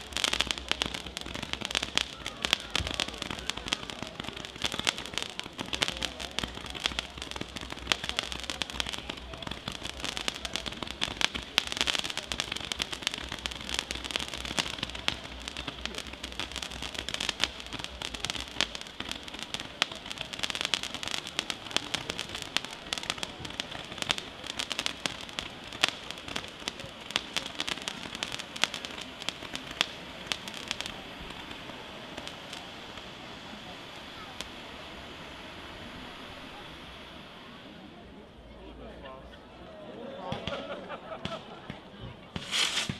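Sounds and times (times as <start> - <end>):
fireworks popping and crackling: 0.0 - 38.8, 40.2 - 42.9.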